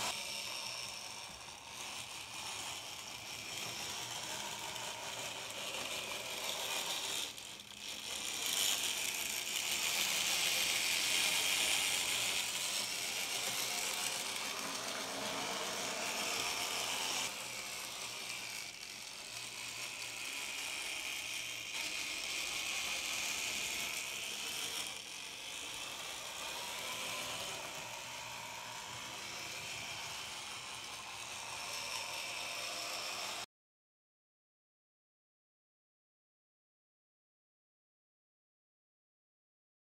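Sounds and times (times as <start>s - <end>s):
model train whirring: 0.0s - 33.5s.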